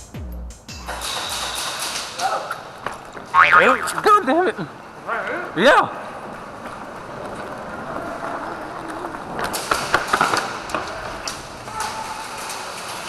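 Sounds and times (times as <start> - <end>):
steady background noise: 0.8 - 13.0.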